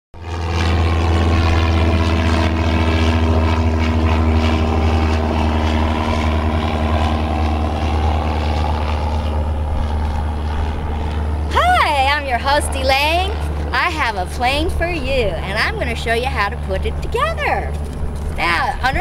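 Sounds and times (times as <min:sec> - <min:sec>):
loud mechanical drone: 0:00.2 - 0:19.0.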